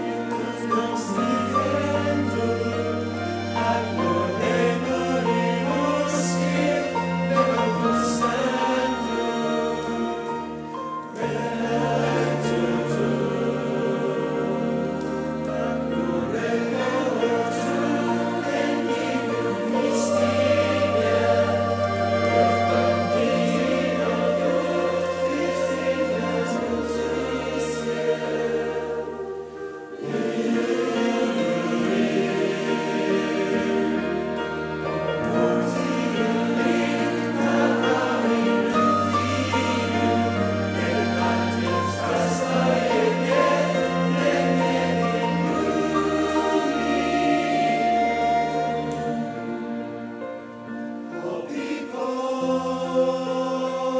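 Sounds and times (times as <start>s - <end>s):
choir singing held chords: 0.0s - 53.9s.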